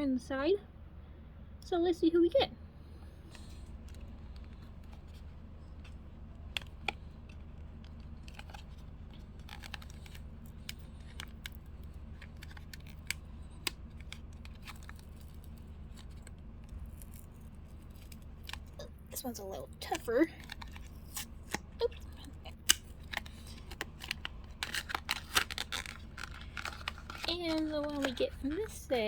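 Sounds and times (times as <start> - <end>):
steady low hum: 0.0 - 29.0
packaging clicks and rustles: 3.2 - 18.8, 19.6 - 29.0.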